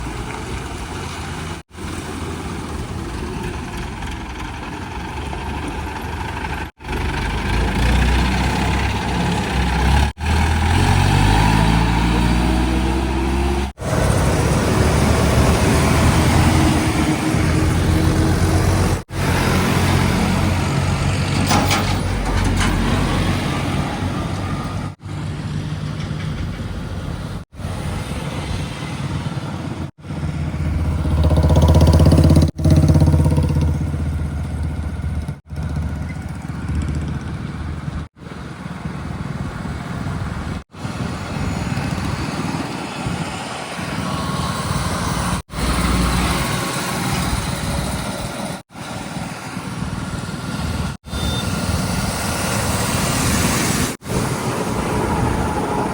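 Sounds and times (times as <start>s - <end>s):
heavy diesel engines running: 0.0s - 55.9s.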